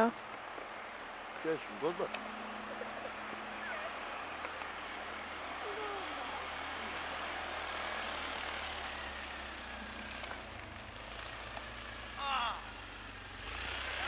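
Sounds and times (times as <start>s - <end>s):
distant quad engine running: 0.0s - 14.0s.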